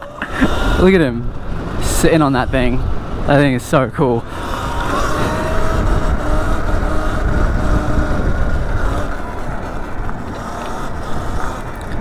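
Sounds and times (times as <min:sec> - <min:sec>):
electric motor whine: 0:00.0 - 0:12.0
tyre and road noise: 0:00.0 - 0:12.0
wind rumbling on microphone: 0:00.0 - 0:12.0.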